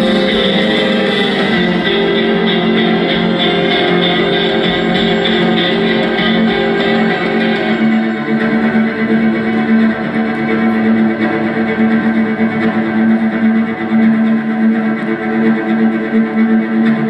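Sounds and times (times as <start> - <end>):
cello: 0.0 - 17.0
low drone: 0.0 - 17.0
violin: 0.0 - 17.0.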